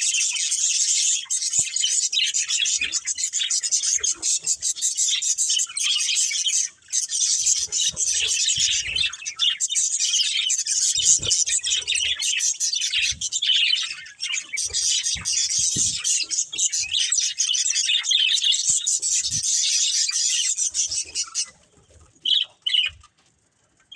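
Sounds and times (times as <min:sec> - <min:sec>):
budgerigars chirping: 0:00.0 - 0:21.6, 0:22.2 - 0:23.1.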